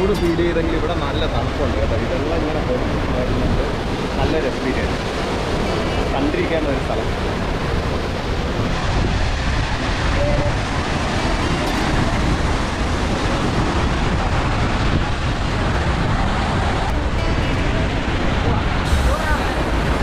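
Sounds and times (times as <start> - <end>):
waterfall roaring: 0.0 - 20.0
wind buffeting microphone: 0.0 - 20.0.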